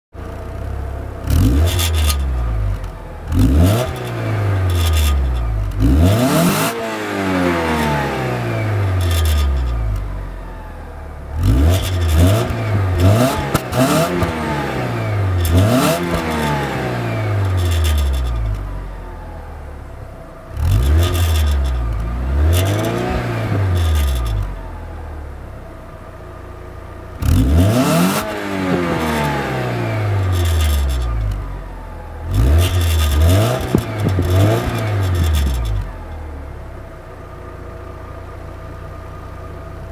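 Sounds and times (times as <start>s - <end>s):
car engine idling: 0.2s - 6.3s, 7.5s - 39.9s
car engine revving: 0.5s - 19.3s, 20.5s - 24.9s, 27.1s - 36.2s.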